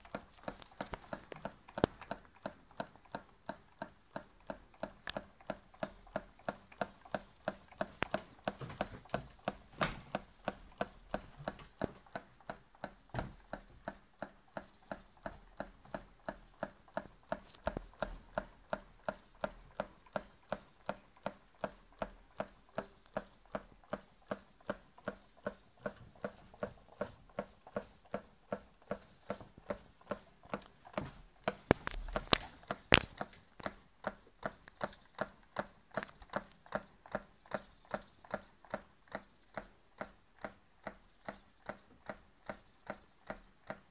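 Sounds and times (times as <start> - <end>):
small engine clicking: 0.0 - 43.9.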